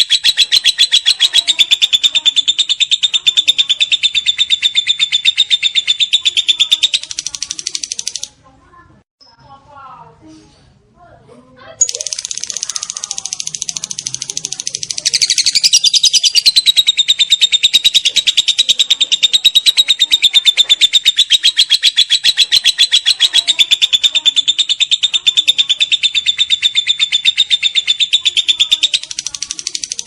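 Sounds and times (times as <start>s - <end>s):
lovebird chattering song: 0.0s - 8.3s, 11.8s - 30.0s.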